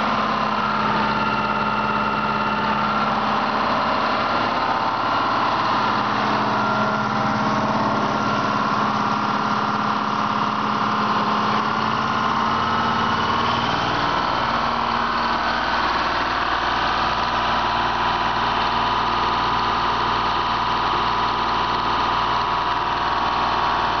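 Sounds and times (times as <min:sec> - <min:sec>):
diesel generator running: 0:00.0 - 0:24.0.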